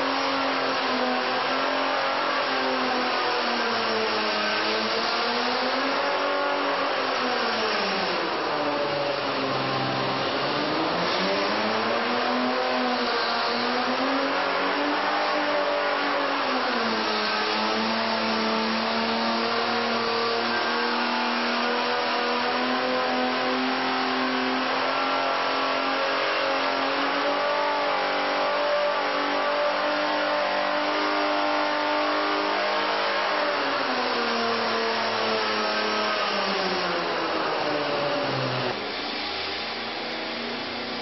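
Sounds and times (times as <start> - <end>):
engine running on dynamometer: 0.0 - 41.0.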